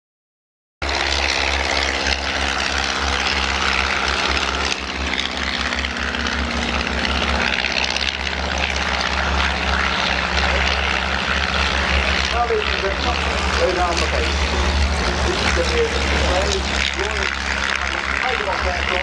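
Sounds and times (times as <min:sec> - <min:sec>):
biplane engines droning: 0:00.8 - 0:19.0.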